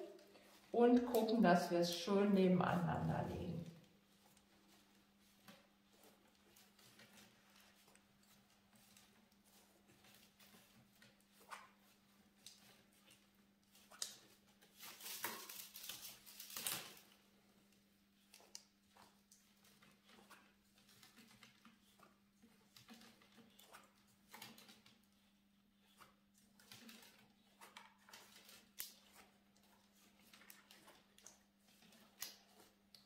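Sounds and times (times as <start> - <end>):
cane rustling and clicking: 0.0 - 1.8, 2.7 - 33.0.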